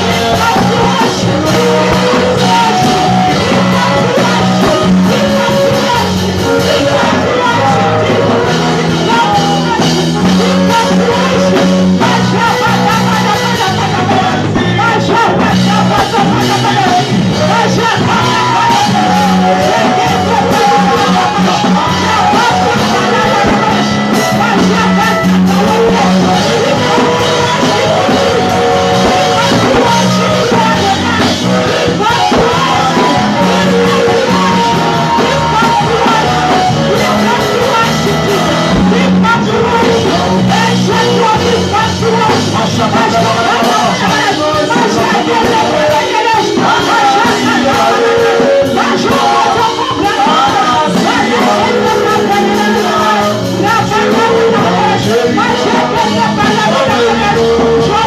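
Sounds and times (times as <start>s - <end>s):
drums: 0.0s - 58.0s
live band with singing: 0.0s - 58.0s
strong bass line: 0.0s - 58.0s.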